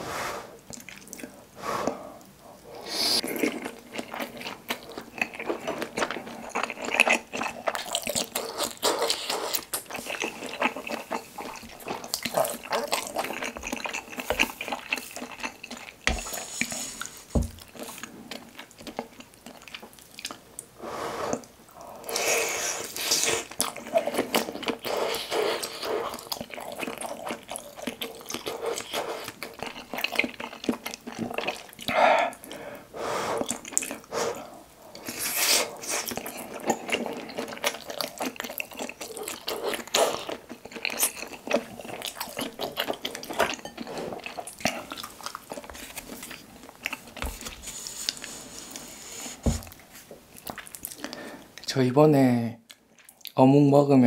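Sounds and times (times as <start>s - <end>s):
wet chewing: 0.6s - 20.7s, 21.3s - 32.7s, 33.4s - 51.7s.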